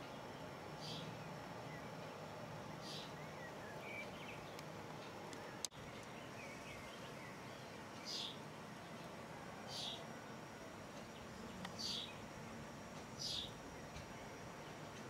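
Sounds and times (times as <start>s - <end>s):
birds chirping: 0.0s - 10.1s, 10.9s - 12.5s, 13.1s - 15.0s.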